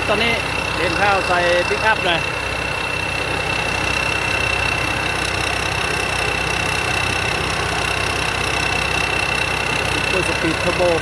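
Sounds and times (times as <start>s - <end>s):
diesel engine running: 0.0s - 11.0s
high-pitched whine: 0.0s - 11.0s.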